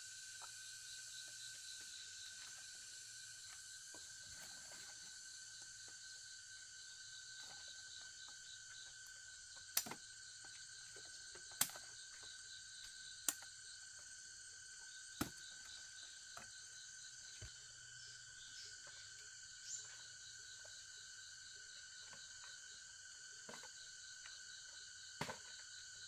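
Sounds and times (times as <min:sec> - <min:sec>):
forest insects droning: 0:00.0 - 0:26.0.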